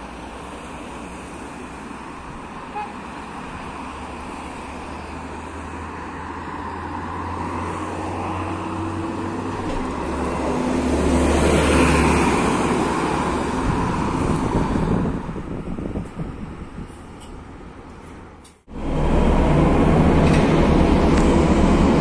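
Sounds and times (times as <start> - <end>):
bus driving past: 0.0 - 22.0.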